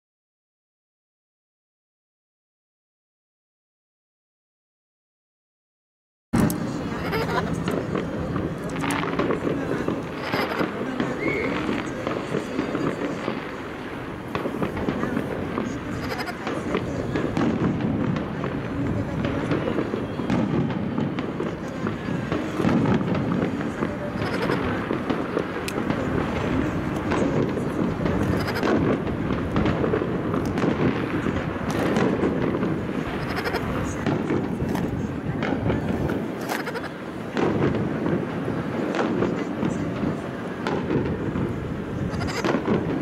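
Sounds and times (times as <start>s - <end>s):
fireworks bursting and crackling: 6.4s - 43.0s
people talking: 6.4s - 43.0s.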